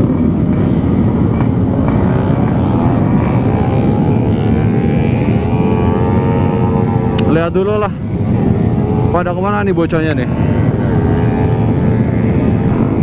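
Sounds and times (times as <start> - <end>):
two-stroke motorcycle engine buzzing: 0.0 - 13.0.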